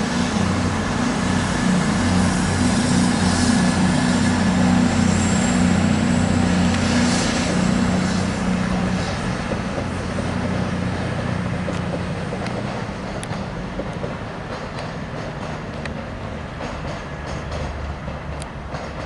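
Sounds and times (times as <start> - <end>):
train diesel engines droning: 0.0 - 19.0.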